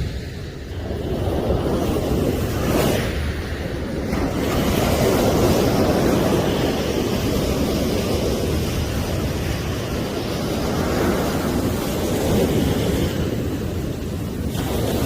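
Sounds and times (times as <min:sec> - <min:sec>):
sea surf washing onto beach: 0:00.0 - 0:15.0
wind rumbling on microphone: 0:00.0 - 0:15.0.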